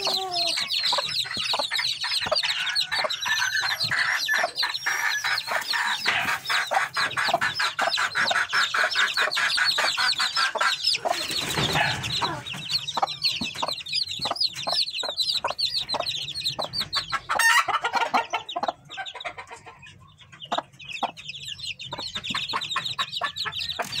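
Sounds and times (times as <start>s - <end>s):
chicks peeping: 0.0s - 24.0s
hen clucking: 0.0s - 24.0s.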